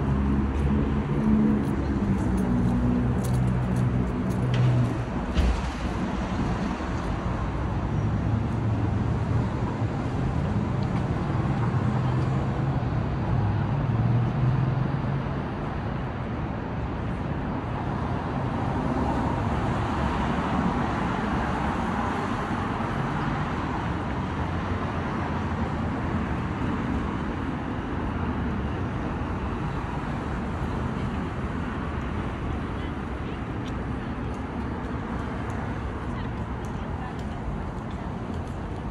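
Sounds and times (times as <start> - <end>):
cars passing: 0.0 - 38.9.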